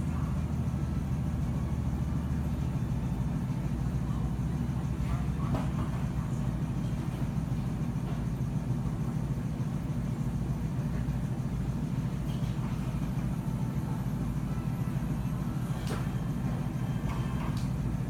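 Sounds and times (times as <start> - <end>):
low room background rumble: 0.0 - 18.0.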